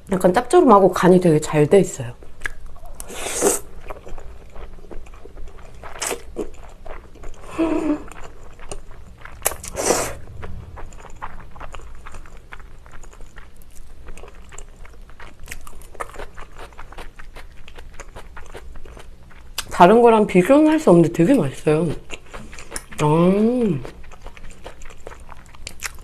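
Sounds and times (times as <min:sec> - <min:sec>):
person chewing noodles: 0:02.4 - 0:19.7, 0:22.0 - 0:26.0.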